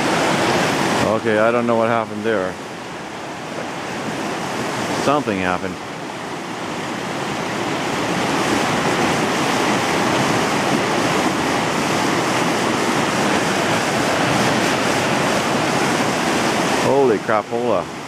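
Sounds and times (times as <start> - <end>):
river rapids rushing: 0.0 - 18.0.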